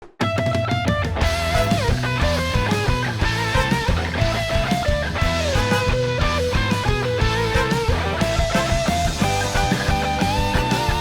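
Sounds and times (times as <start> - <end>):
plucked guitar notes: 0.4 - 11.0
steady bass line: 1.2 - 11.0.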